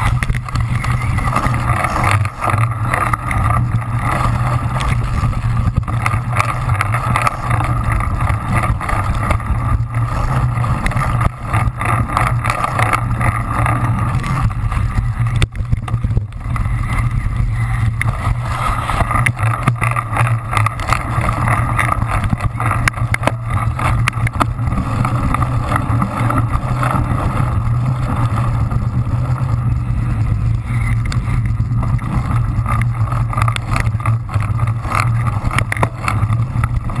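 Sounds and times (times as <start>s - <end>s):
bike rattling and knocking: 0.0s - 37.0s
wind rushing over microphone: 0.0s - 37.0s.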